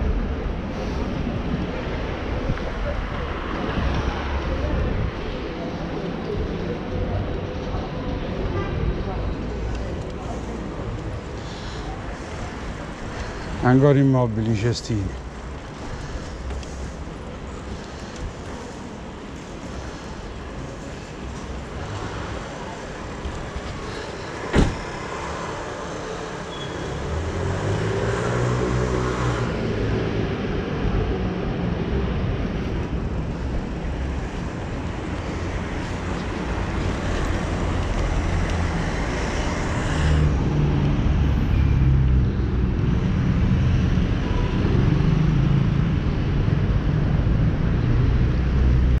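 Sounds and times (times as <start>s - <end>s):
road noise: 0.0s - 49.0s.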